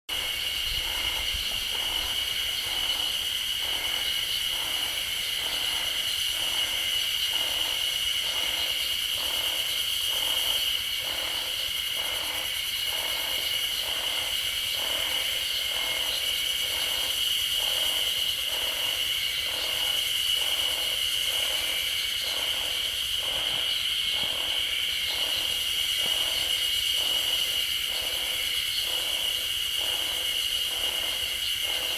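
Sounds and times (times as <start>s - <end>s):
cicadas buzzing in pulses: 0.1s - 31.9s.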